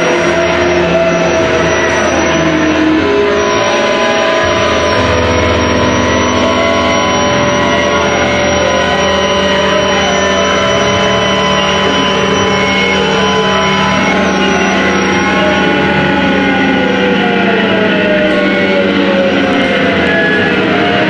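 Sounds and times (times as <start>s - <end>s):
noise guitars droning: 0.0s - 21.0s.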